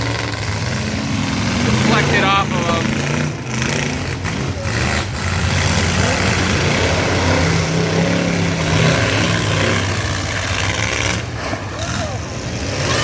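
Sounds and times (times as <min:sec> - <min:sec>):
pickup truck engines running loud: 0:00.0 - 0:13.0.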